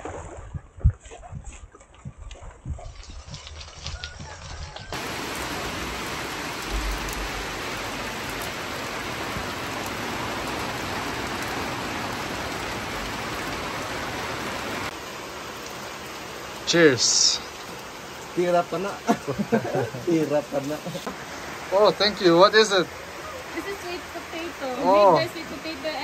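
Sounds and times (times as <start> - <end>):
heavy pouring rain: 3.5 - 26.0.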